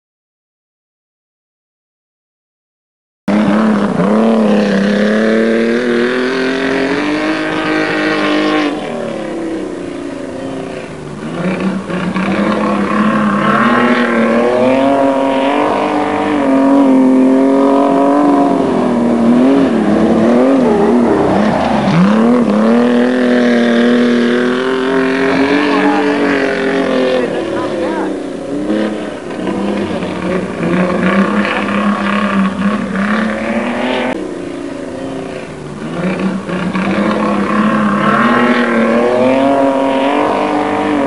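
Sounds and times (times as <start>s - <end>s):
racing car engines revving: 3.3s - 41.0s.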